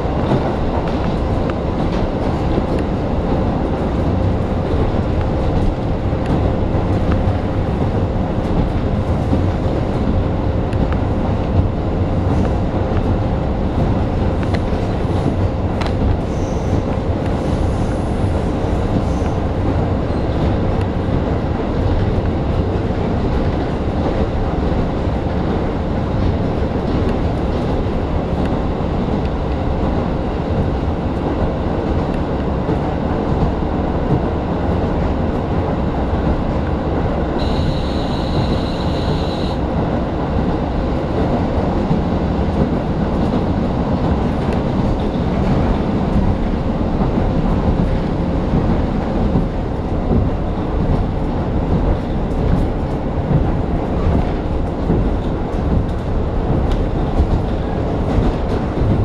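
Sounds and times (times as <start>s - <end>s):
railcar engine and wheels rumbling: 0.0s - 59.0s.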